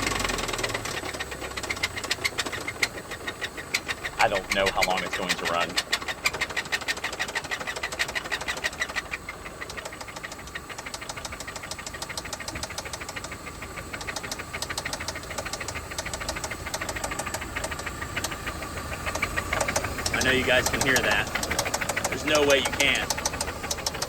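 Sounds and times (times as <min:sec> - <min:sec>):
car engine knocking: 0:00.0 - 0:24.0.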